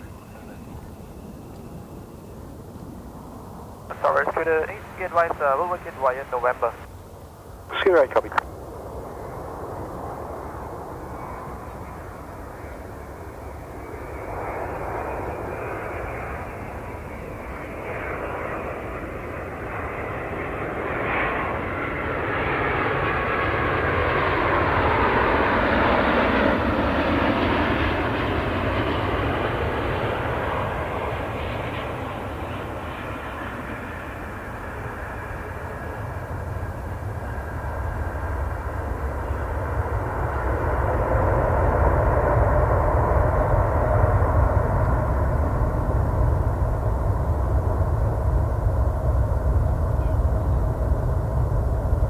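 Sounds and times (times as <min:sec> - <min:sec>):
jet engines rumble and whine: 0:00.0 - 0:52.0.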